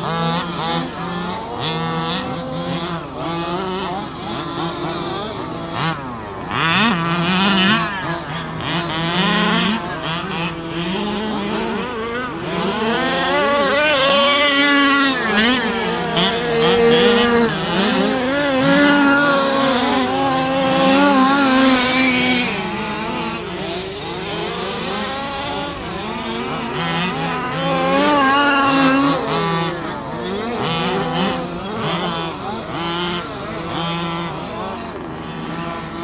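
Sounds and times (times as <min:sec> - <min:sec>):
small two-stroke engines revving: 0:00.0 - 0:36.0.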